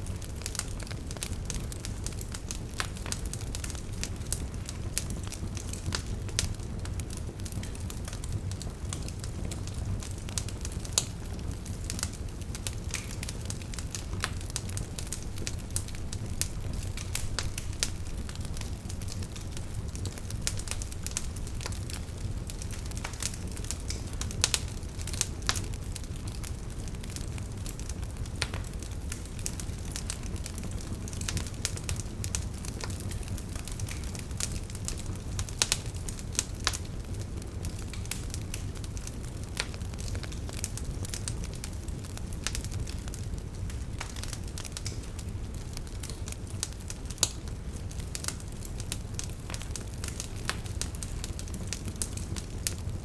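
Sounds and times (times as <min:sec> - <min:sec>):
sharp pops of fire: 0:00.0 - 0:53.0
wood fire crackling: 0:00.0 - 0:53.0.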